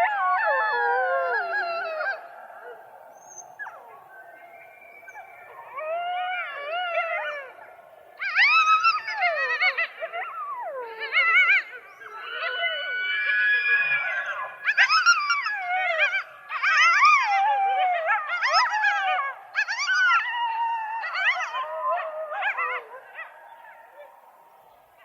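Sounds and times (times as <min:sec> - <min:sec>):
coyotes howling and yipping: 0:00.0 - 0:25.0.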